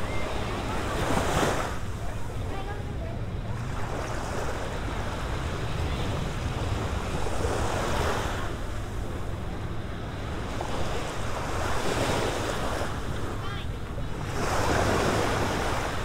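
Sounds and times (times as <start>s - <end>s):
small waves lapping on beach: 0.0s - 16.0s.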